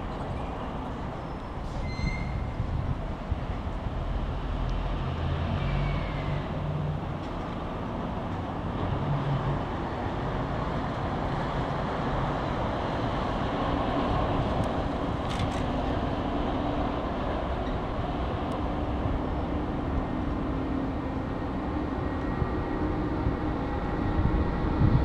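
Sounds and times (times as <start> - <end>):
road and rail traffic rumble: 0.0 - 25.0.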